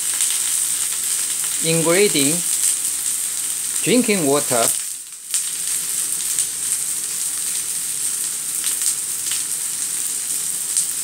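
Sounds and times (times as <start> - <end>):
light crackles of frying: 0.0 - 11.0
potatoes and onion sizzling in oil: 0.0 - 11.0.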